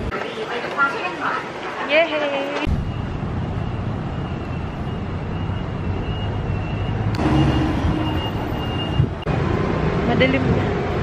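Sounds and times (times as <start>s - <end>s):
city road traffic rumble: 0.0s - 11.0s.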